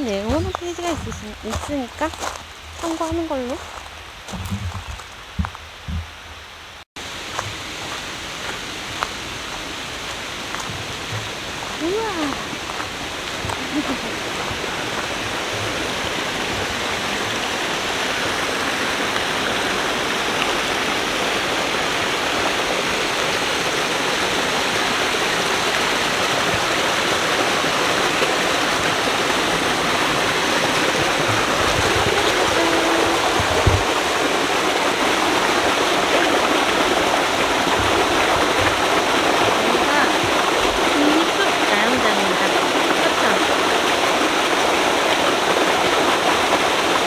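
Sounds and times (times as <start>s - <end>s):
stream rushing over rocks: 0.0s - 47.0s.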